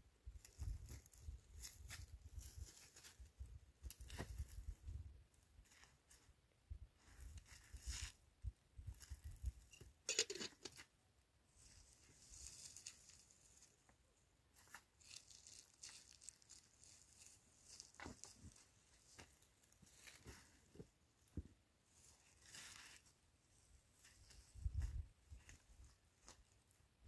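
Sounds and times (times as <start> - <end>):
faint rustling and crackling: 0.3 - 10.9, 11.5 - 27.0.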